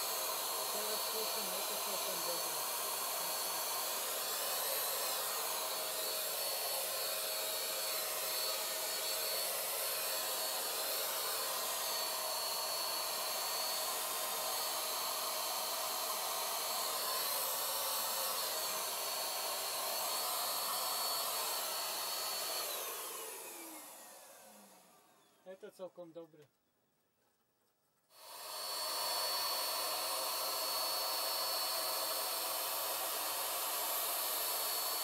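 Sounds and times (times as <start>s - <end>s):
electric spray gun whine and air rush: 0.0s - 25.3s, 28.2s - 35.0s.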